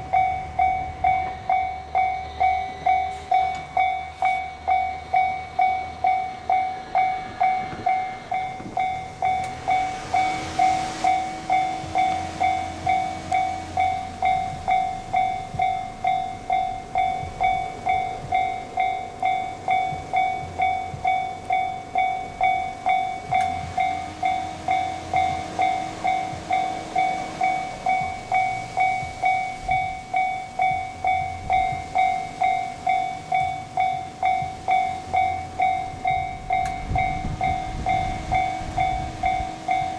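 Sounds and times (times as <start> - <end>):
level-crossing warning bell: 0.0 - 39.9
low hum: 0.0 - 39.9.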